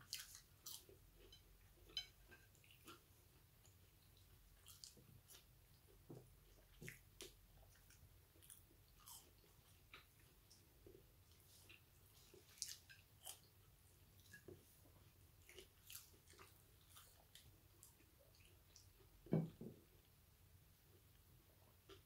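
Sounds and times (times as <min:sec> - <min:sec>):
chewing and lip smacking: 0:00.0 - 0:19.1.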